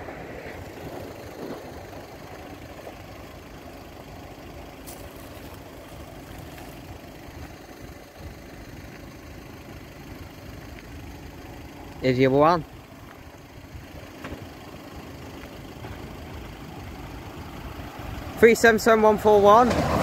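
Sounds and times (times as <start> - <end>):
car engines idling: 0.0 - 20.0.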